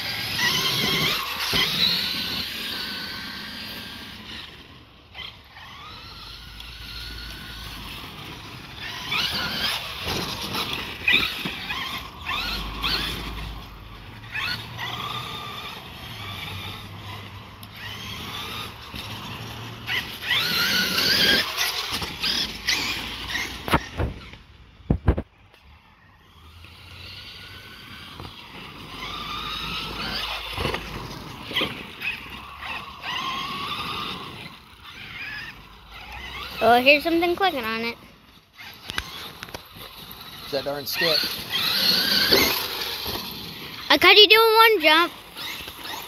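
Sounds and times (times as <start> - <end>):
rc truck motor whine: 0.0 - 46.0.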